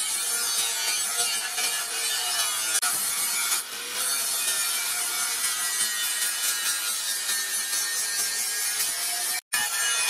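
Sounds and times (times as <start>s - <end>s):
angle grinder grinding steel: 0.0s - 10.0s.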